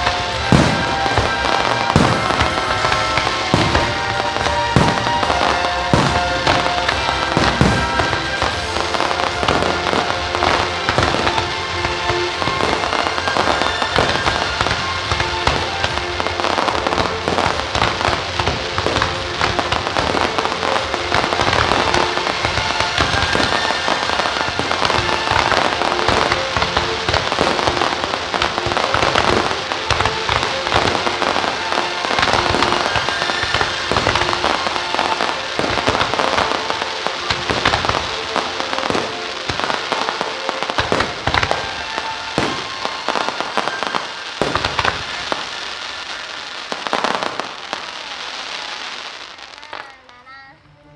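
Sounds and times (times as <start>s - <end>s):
fireworks bangs and crackles: 0.0s - 50.9s
music playing: 0.0s - 50.9s.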